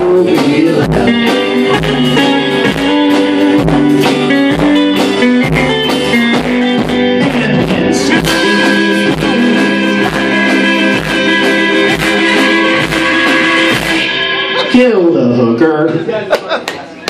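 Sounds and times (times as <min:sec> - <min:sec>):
drum kit: 0:00.0 - 0:15.4
bass guitar: 0:00.0 - 0:16.0
electric guitars: 0:00.0 - 0:16.1.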